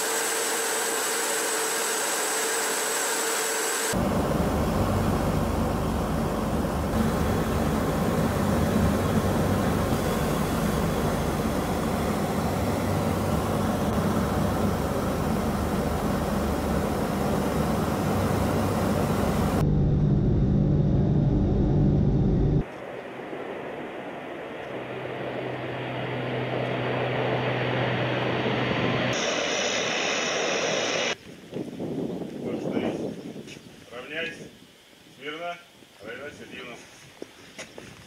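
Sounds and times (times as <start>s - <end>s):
aircraft in flight roaring: 0.0s - 31.2s
turboprop propellers droning: 0.0s - 31.2s.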